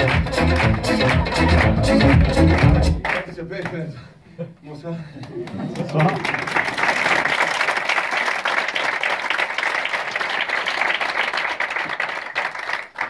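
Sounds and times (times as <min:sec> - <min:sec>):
audience applauding: 0:00.0 - 0:03.4, 0:05.2 - 0:13.0.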